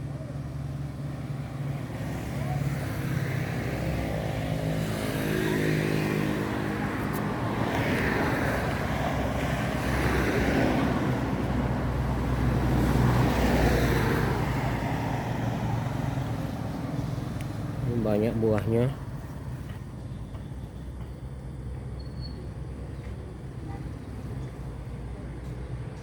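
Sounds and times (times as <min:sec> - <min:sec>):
passing traffic: 0:00.0 - 0:26.0
vehicle engine hum: 0:00.0 - 0:26.0.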